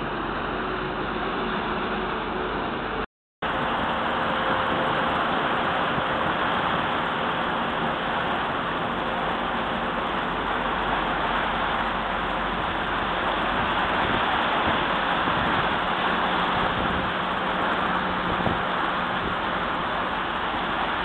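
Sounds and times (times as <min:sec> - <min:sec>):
boat engine hum: 0:00.0 - 0:21.0
propellers churning water: 0:00.0 - 0:21.0.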